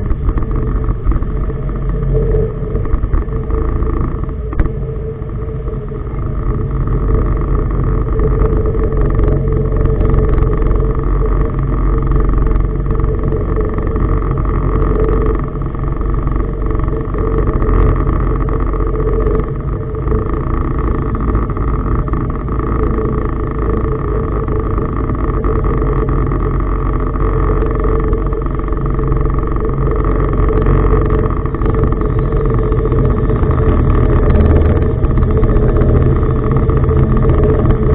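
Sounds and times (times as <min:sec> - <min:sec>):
diesel engine rumbling: 0:00.0 - 0:37.9.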